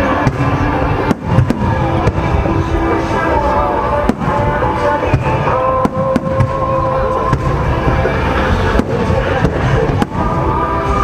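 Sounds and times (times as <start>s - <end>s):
continuous rumbling din: 0.0s - 11.0s
fireworks bangs: 0.0s - 11.0s.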